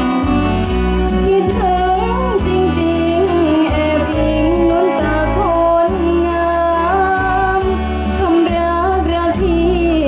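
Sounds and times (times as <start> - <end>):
backing track with bass and beat: 0.0 - 10.0
girl singing into microphone: 1.2 - 10.0.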